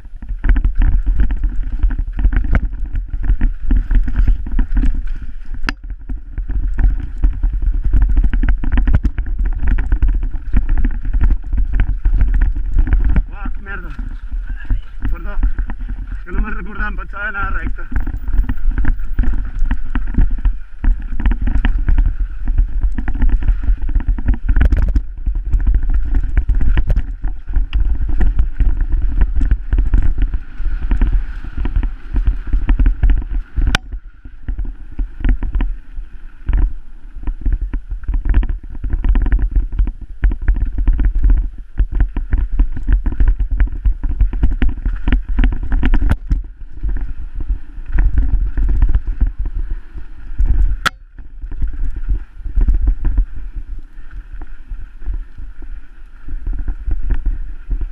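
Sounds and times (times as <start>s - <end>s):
bike clattering over bumps: 0.0s - 54.6s
wind rumble on microphone: 0.0s - 57.9s.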